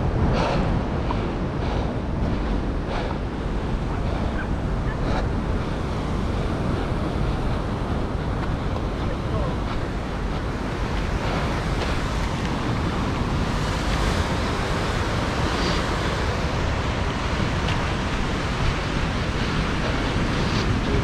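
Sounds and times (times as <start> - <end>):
ocean surf rushing: 0.0 - 21.0
wind buffeting microphone: 0.0 - 21.0.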